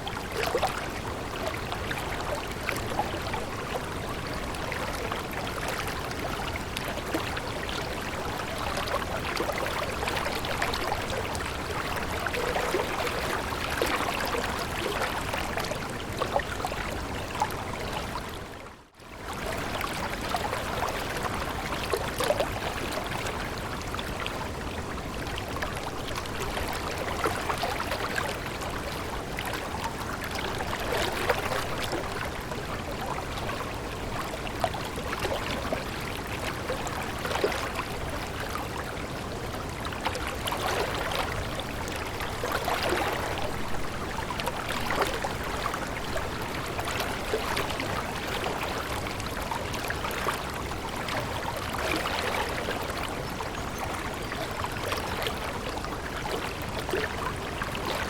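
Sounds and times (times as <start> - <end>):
stream flowing and trickling: 0.0 - 58.0.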